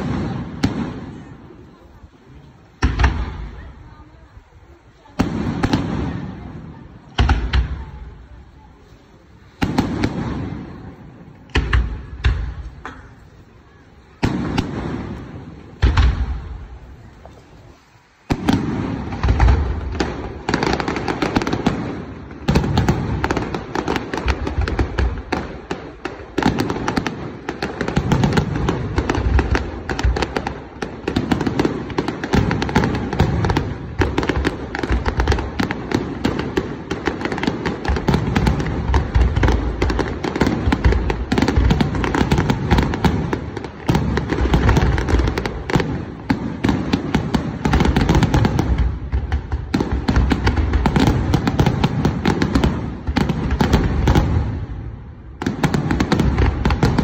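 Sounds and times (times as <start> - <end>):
fireworks booming: 0.0 - 57.0
fireworks crackling: 0.0 - 57.0.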